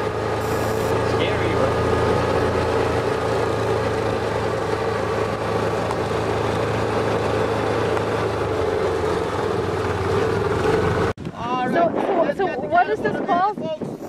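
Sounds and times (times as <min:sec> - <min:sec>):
vehicle engine droning: 0:00.0 - 0:11.3.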